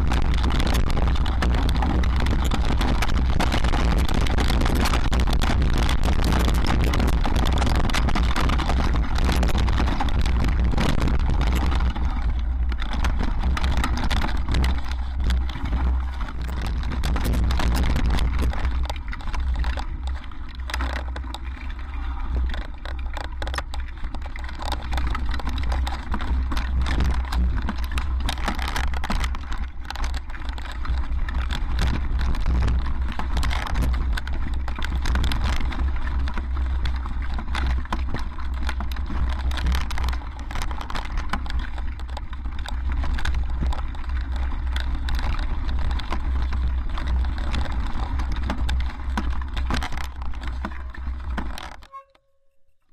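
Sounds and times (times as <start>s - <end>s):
tyres rolling over stones: 0.0s - 51.8s
bike rattling over bumps: 0.0s - 52.0s
wind rumble on microphone: 0.0s - 52.0s.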